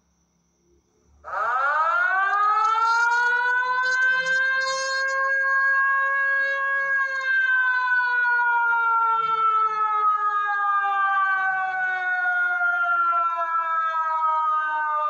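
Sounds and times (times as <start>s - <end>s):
siren-like wail sliding lower: 1.3s - 15.0s.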